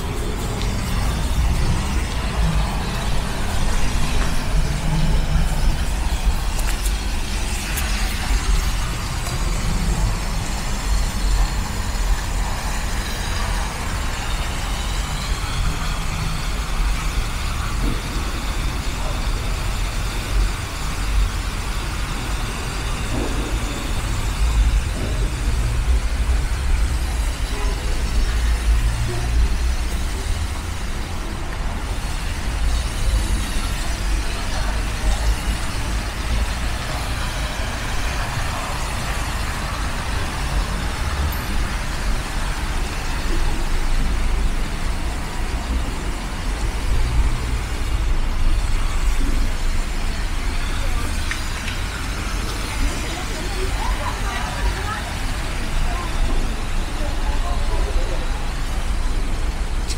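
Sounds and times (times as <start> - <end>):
road traffic: 0.0 - 59.9.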